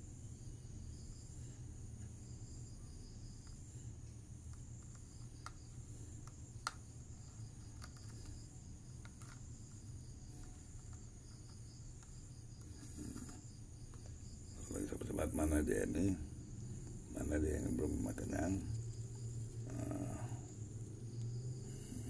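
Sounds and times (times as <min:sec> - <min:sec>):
insects trilling: 0:00.0 - 0:22.0
low background rumble: 0:00.1 - 0:22.0.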